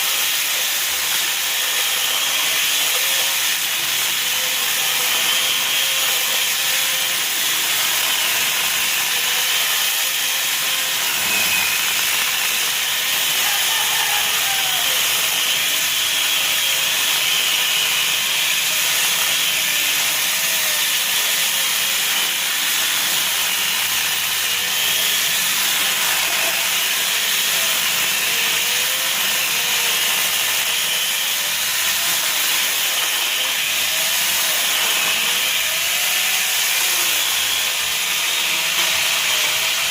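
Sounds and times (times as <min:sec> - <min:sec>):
electric chainsaw cutting wood: 0:00.0 - 0:39.9.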